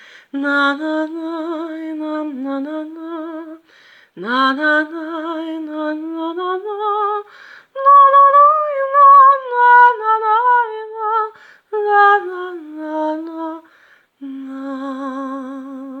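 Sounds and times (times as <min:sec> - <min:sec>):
woman singing wordless melody: 0:00.0 - 0:16.0.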